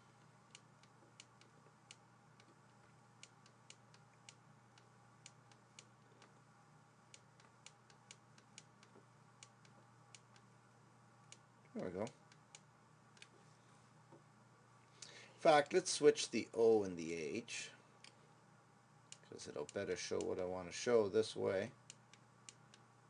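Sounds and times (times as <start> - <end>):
low steady hiss: 0.0 - 23.0.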